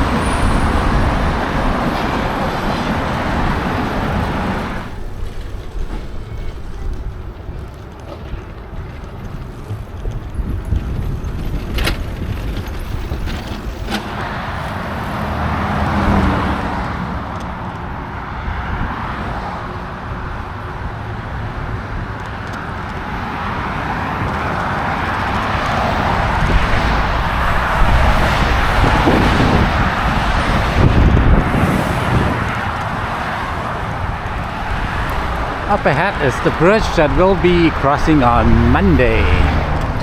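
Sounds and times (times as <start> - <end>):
street traffic rumble: 0.0 - 40.0.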